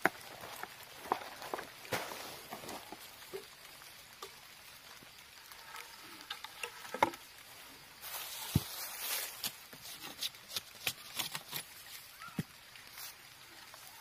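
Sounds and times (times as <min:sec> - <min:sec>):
dry leaves rustling: 0:00.0 - 0:14.0.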